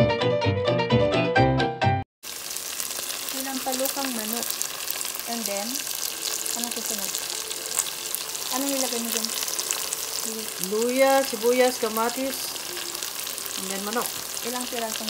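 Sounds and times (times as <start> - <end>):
chicken sizzling in a pan: 2.2 - 15.0
small pops of frying: 2.2 - 15.0.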